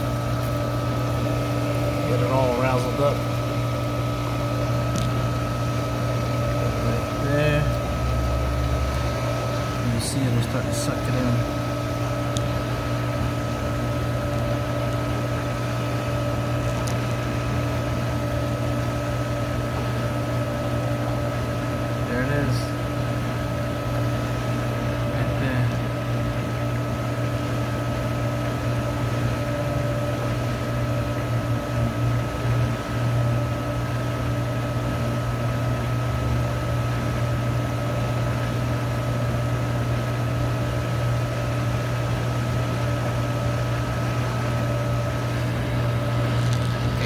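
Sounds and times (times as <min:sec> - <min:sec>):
pool pump motor hum: 0:00.0 - 0:47.0.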